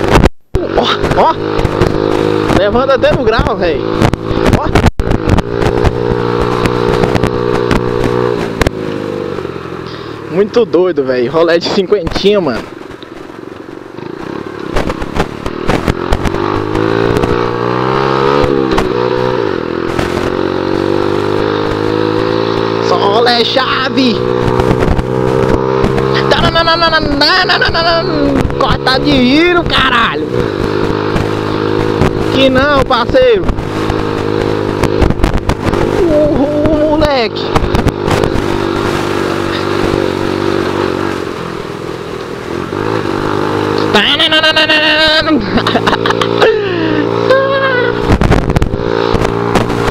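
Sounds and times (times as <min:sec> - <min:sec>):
scooter engine at high revs: 0:00.0 - 0:49.9
wind and road noise: 0:00.0 - 0:49.9.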